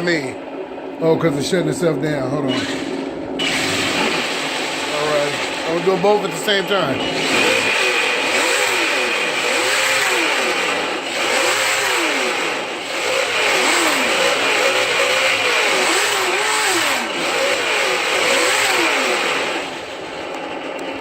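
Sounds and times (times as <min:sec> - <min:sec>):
simulated engine revving: 0:00.0 - 0:21.0.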